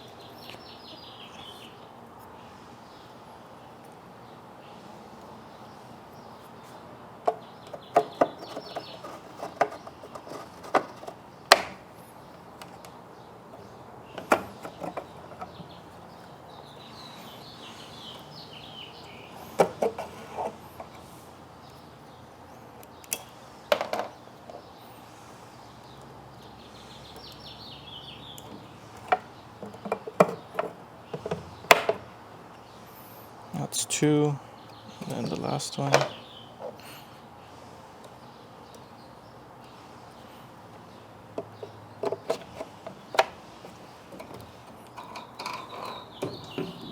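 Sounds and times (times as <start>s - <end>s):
faint birds chirping: 0.0s - 46.9s.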